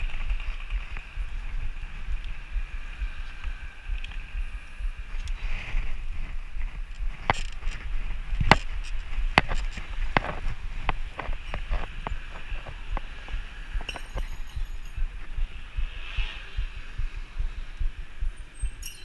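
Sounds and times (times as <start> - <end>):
bicycle clicking and rattling: 0.0 - 16.6
wind and road noise: 0.0 - 19.0.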